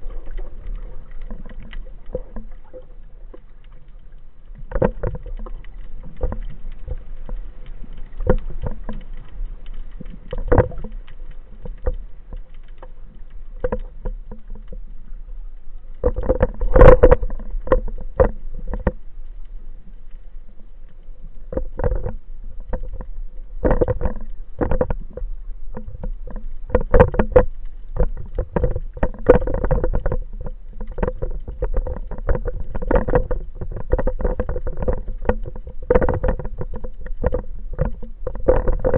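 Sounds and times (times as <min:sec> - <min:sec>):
underwater clicks and knocks: 0:00.0 - 0:38.9
underwater rumble of moving water: 0:00.0 - 0:38.9.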